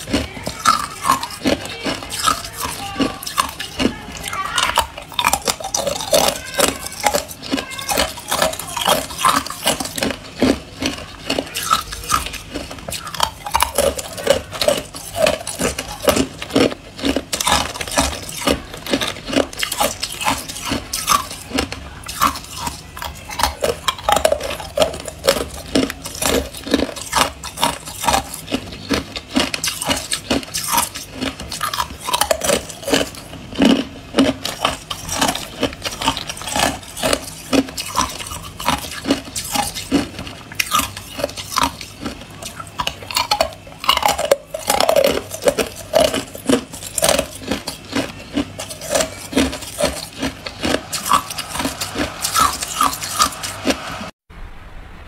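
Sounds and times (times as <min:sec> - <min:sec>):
ice cubes crunched between teeth: 0:00.0 - 0:53.8.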